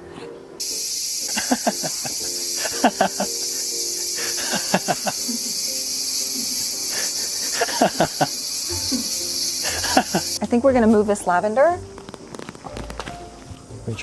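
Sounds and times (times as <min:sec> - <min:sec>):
cicadas buzzing: 0:00.6 - 0:13.8.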